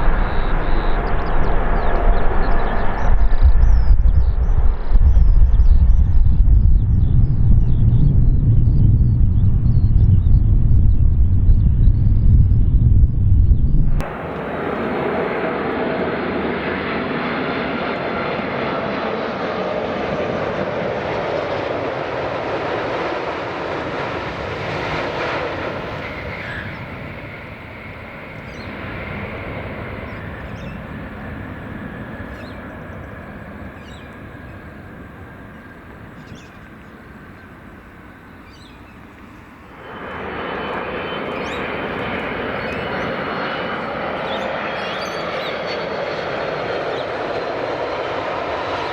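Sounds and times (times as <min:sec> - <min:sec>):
jet engines passing: 0:00.0 - 0:48.9.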